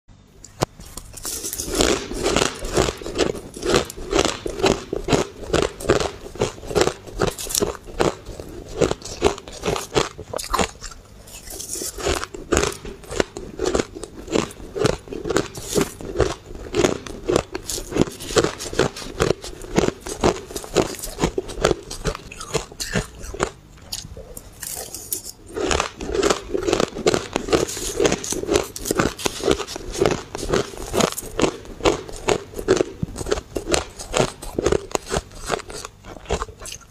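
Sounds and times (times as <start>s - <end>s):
crunchy chewing of shaved ice: 0.4s - 36.9s.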